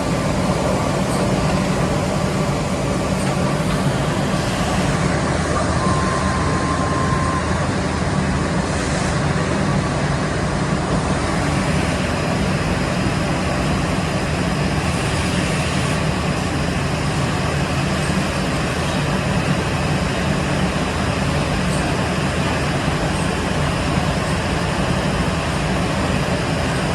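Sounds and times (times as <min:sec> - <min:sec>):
machine humming and hissing: 0:00.0 - 0:26.9.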